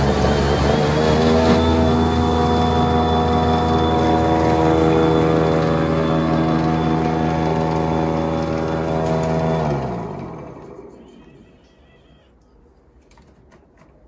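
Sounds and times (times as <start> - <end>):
electric snowblower whine: 0.0 - 11.6.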